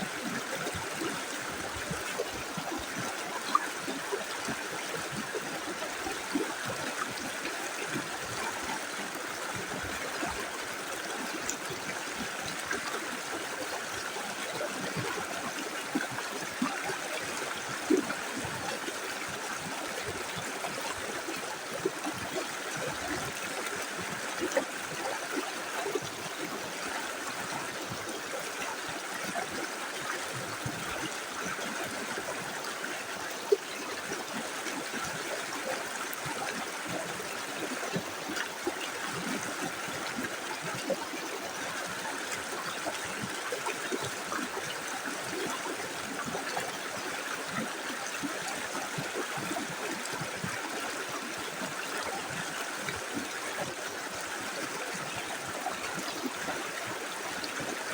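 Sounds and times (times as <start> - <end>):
river flowing over stones: 0.0 - 57.9.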